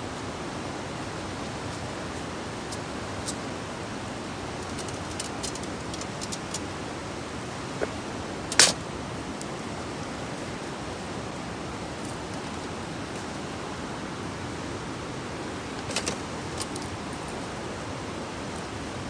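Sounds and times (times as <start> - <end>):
campfire hissing: 0.0 - 19.0.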